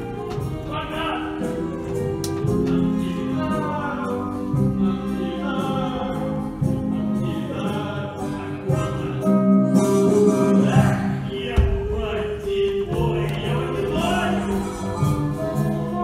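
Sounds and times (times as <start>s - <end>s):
instrumental accompaniment: 0.0s - 16.0s
person singing: 2.3s - 16.0s.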